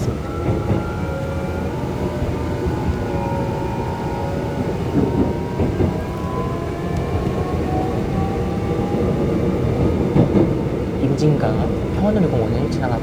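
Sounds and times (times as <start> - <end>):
traction motor whine: 0.0 - 11.0
rumble of train wheels on track: 0.0 - 13.0.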